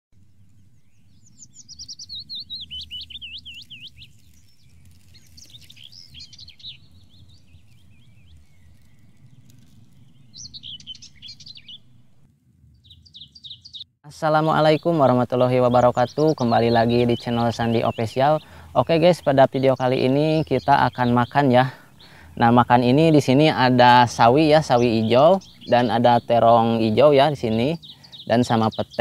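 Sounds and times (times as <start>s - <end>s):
low background rumble: 0.2s - 28.1s
songbird chirping: 0.2s - 29.0s.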